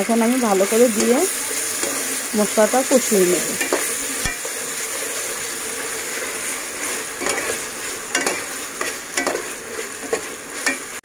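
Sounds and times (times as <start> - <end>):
food sizzling in hot oil: 0.0 - 11.0
metal spatula scraping pot: 0.6 - 2.3, 3.3 - 11.0.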